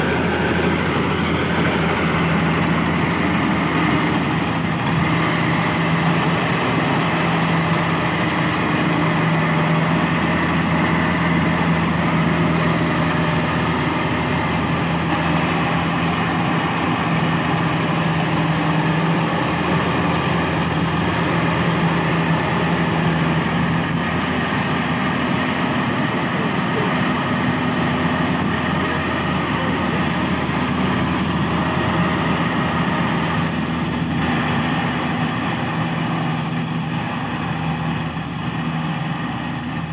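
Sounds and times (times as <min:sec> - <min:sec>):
combine harvester diesel engine running: 0:00.0 - 0:39.9.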